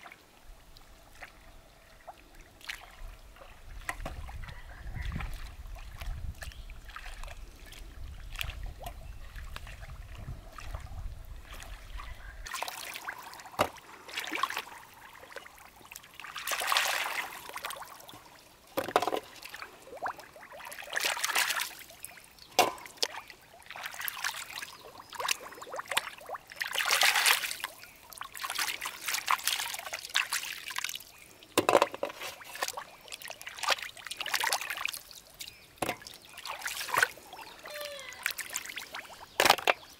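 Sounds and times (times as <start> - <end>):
hands sloshing through muddy water: 2.1 - 18.4, 19.1 - 31.4, 32.1 - 39.9.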